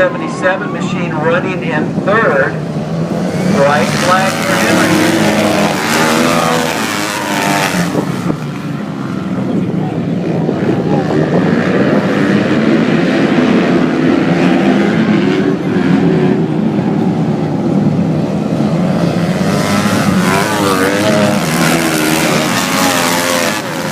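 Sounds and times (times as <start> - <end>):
racing motorcycles: 0.0 - 23.9.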